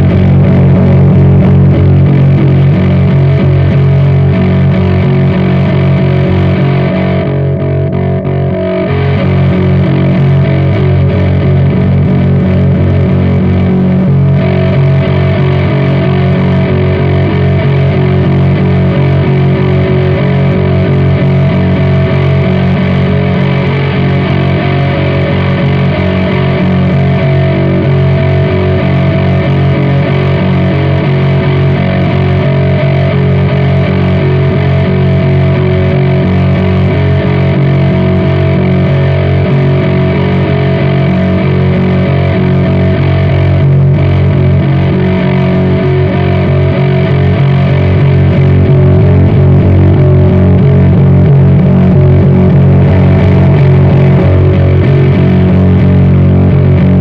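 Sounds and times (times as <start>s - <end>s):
distorted electric bass droning: 0.0s - 57.0s.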